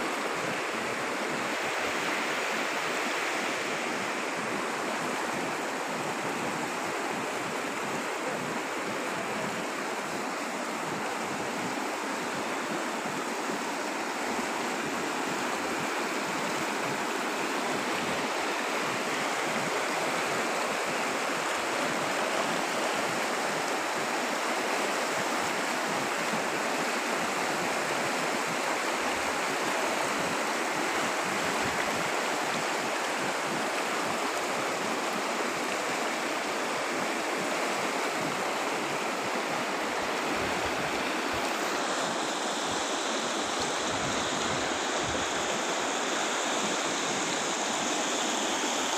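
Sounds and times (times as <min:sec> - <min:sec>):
river rushing over stones: 0:00.0 - 0:48.9.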